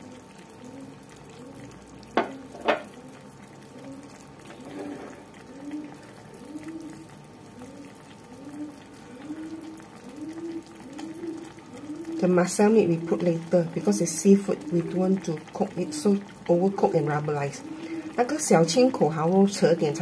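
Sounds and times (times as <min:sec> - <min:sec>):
rice bubbling in a pan: 0:00.0 - 0:20.0.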